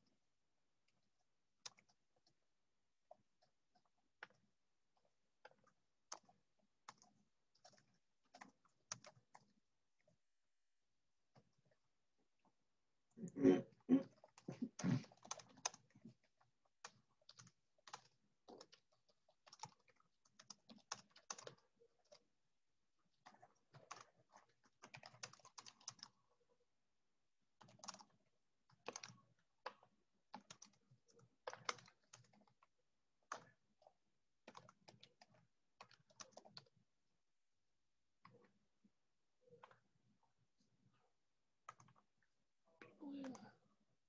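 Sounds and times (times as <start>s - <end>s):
faint keyboard typing: 0.8s - 11.8s, 12.4s - 22.4s, 23.0s - 26.7s, 27.5s - 36.9s, 38.2s - 43.6s.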